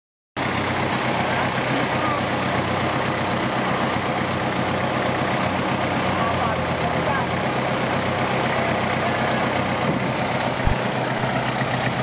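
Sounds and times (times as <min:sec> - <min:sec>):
utility vehicle engine idling: 0:00.4 - 0:12.0.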